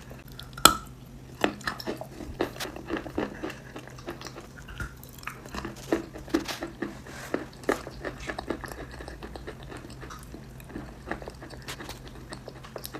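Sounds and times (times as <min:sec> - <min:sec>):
person chewing crunchy food: 0:00.0 - 0:12.9.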